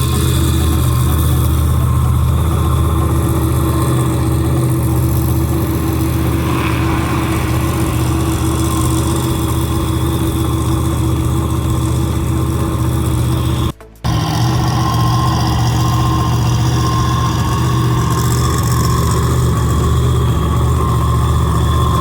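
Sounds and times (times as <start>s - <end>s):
large engine idling: 0.0s - 22.0s.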